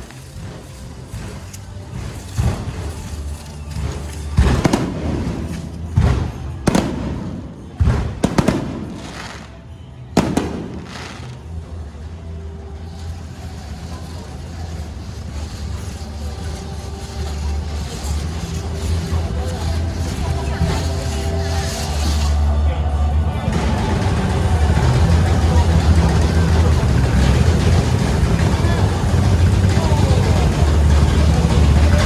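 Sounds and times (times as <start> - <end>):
fireworks bangs: 0.0 - 22.6, 23.5 - 32.0
low rumble: 0.0 - 32.0.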